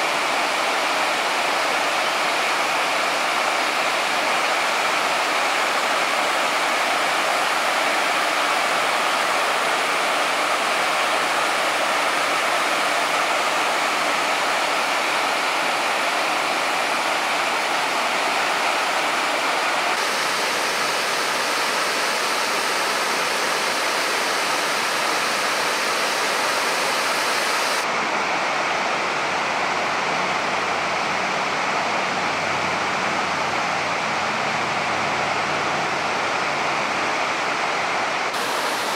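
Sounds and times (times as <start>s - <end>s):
waterfall rushing over rocks: 0.0s - 38.9s.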